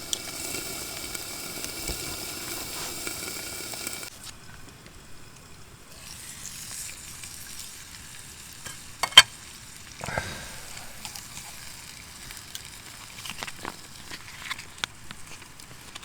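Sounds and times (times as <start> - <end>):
food frying and sizzling: 0.0 - 16.0.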